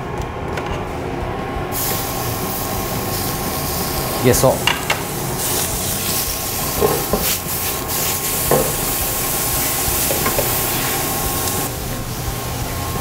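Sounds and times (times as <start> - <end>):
squid sizzling in oil: 1.8 - 13.0.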